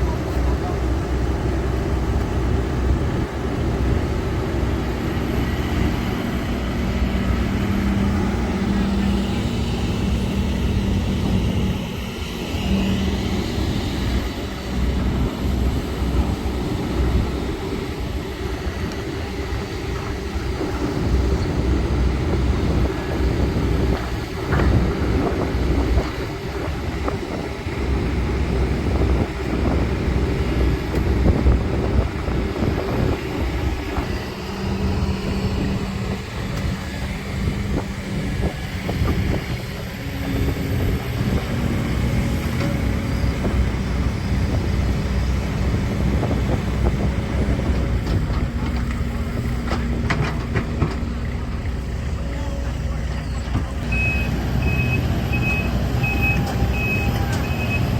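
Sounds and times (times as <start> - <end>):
diesel excavator engine running: 0.0 - 57.9.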